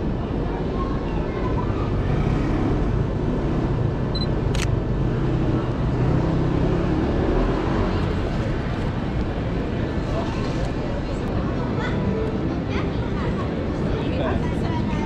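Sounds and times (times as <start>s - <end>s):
city street hum: 0.0s - 15.0s.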